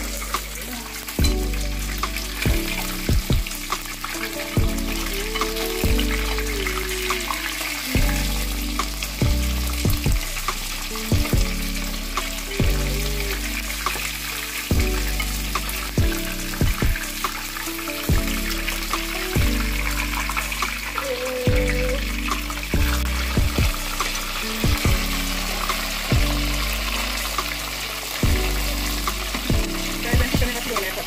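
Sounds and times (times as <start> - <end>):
background music with bass beat: 0.0 - 31.0
fish sizzling in hot oil: 0.0 - 31.0.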